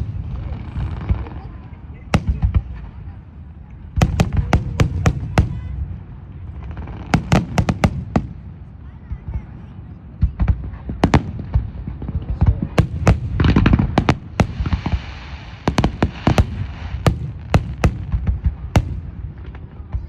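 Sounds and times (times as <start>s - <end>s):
fireworks banging: 0.0s - 20.0s
fireworks crackling: 0.0s - 20.0s.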